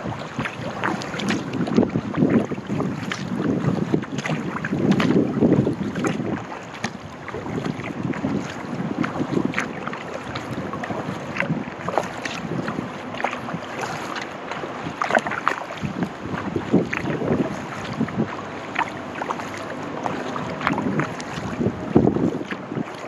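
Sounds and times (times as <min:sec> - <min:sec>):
paddle splashing in water: 0:00.0 - 0:23.0
water dripping and lapping: 0:00.0 - 0:23.0
wind noise on microphone: 0:00.0 - 0:23.0.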